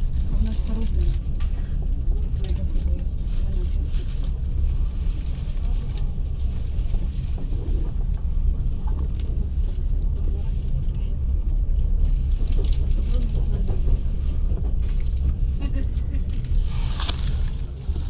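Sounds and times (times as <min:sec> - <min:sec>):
train wheels rumbling on rails: 0:00.0 - 0:18.0
faint clicks and rattles: 0:00.2 - 0:18.0.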